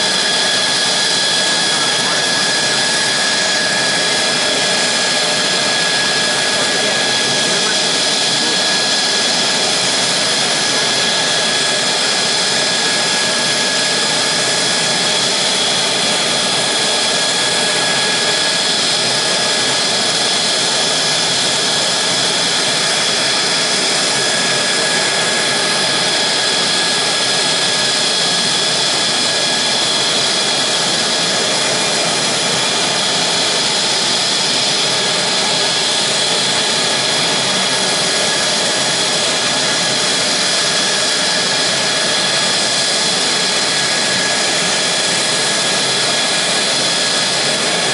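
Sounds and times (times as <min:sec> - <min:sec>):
jet engine rush and whine: 0:00.0 - 0:47.9.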